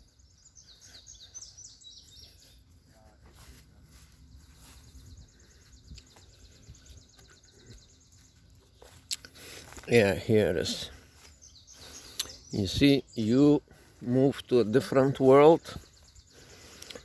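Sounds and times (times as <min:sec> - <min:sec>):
songbird chirping and trilling: 0:00.0 - 0:17.0.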